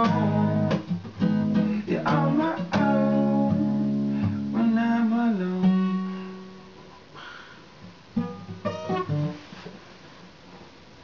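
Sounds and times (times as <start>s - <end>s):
acoustic guitar strummed and picked: 0.0s - 7.2s, 7.8s - 9.8s.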